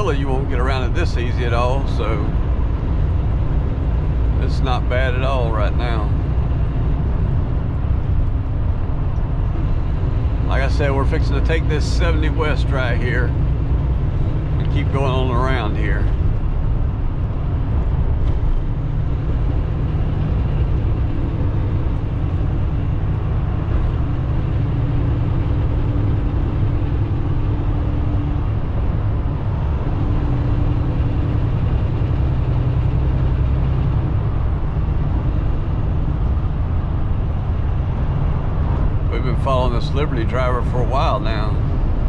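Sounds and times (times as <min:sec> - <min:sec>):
truck engine and tyre rumble: 0:00.0 - 0:42.0.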